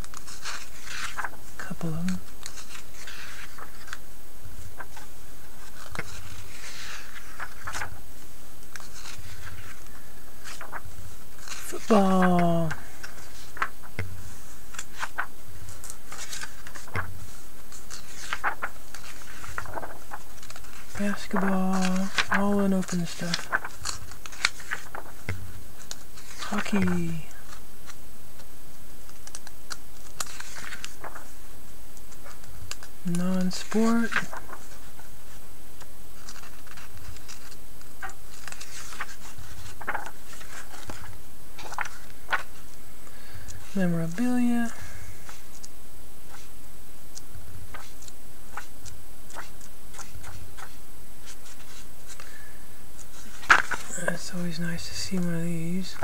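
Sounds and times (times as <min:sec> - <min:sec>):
catalog pages turning: 0:00.0 - 0:35.4, 0:36.2 - 0:46.5, 0:47.1 - 0:56.0.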